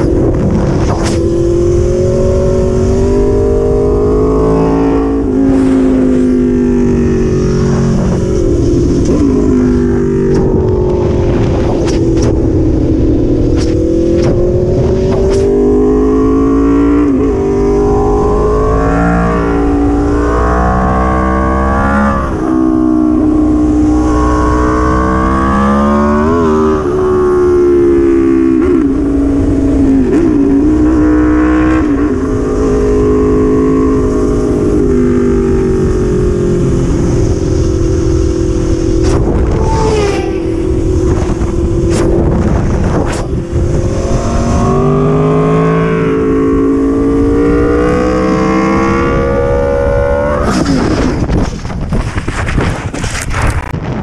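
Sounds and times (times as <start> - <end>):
motorcycle engine shifting gears: 0.0 - 54.0
wind rush on microphone: 0.0 - 54.0.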